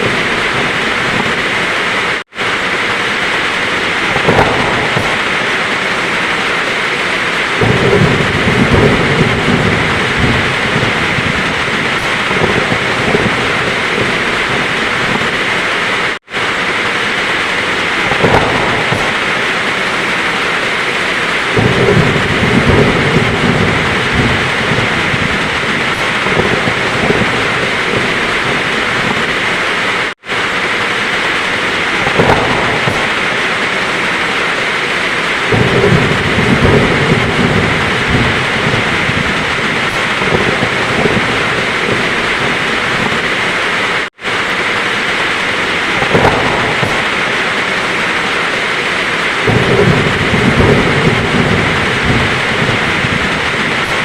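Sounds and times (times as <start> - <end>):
heavy rain: 0.0 - 54.0
rolling thunder: 0.0 - 54.0.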